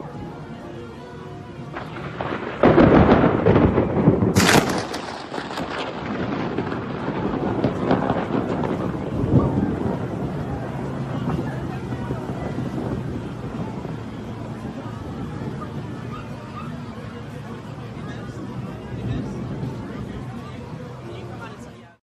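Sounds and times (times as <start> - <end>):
thunder rumbling and cracking: 1.6 - 21.1.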